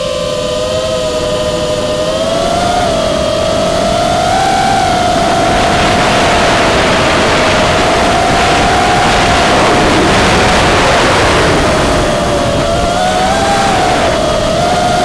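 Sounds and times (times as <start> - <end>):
quadcopter motors whining: 0.0 - 15.0
rushing air and prop wash: 0.0 - 15.0.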